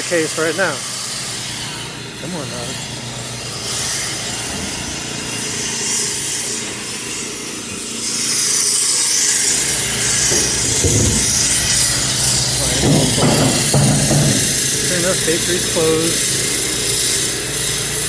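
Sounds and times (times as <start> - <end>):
power saw rasping: 0.0 - 18.0.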